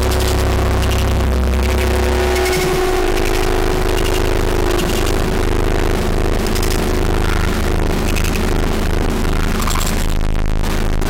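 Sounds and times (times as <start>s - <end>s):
distorted noise wall: 0.0s - 11.0s
steady droning tone: 0.0s - 11.0s
stuttering low rumble: 0.0s - 11.0s.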